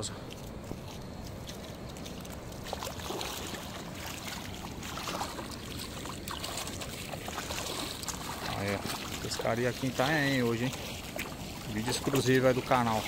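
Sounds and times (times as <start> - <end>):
water lapping over sand and rocks: 0.0 - 13.0.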